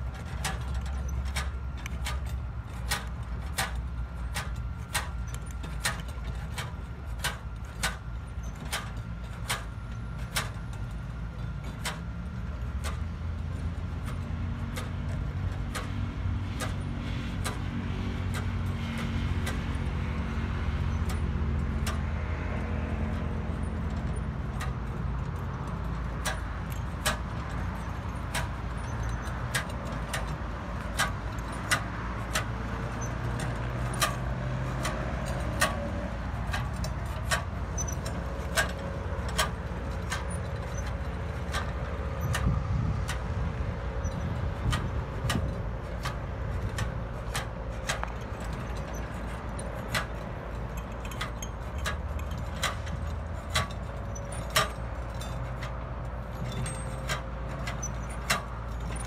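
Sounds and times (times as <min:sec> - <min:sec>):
sharp metallic clicks and rattles: 0:00.0 - 0:59.0
steady low rumble: 0:00.0 - 0:59.0.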